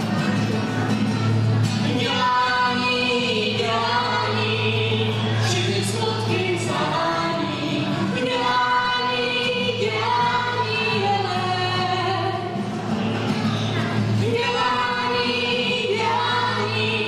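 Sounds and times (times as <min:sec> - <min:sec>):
acoustic guitar: 0:00.0 - 0:17.0
group singing live: 0:01.8 - 0:12.7, 0:13.7 - 0:17.0.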